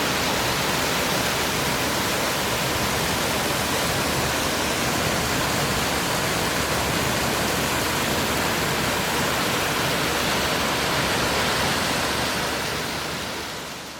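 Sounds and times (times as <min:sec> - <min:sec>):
stream flowing over stones: 0:00.0 - 0:13.9.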